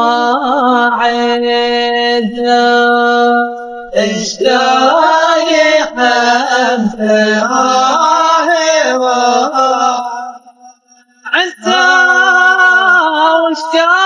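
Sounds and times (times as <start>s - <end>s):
person chanting: 0.0s - 10.5s, 11.3s - 14.0s.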